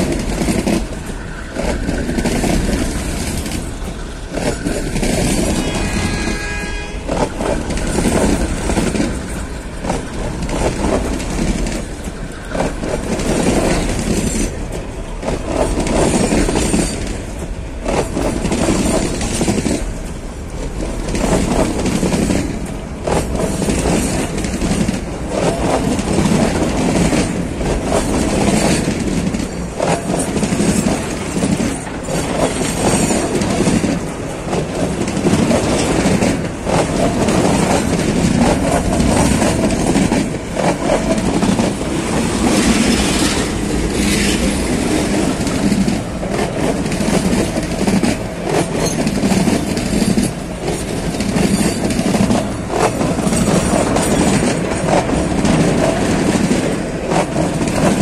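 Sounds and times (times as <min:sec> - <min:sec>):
train wheels clattering on rail: 0:00.0 - 0:58.0.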